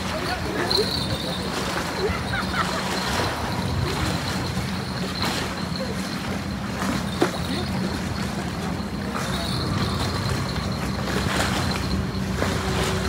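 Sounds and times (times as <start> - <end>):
low motor hum: 0.7 - 13.0.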